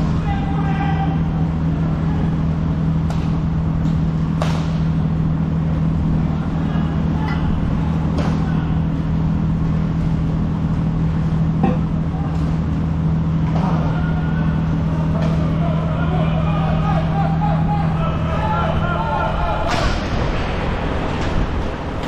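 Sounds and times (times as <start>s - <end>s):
rink hum: 0.0s - 22.0s.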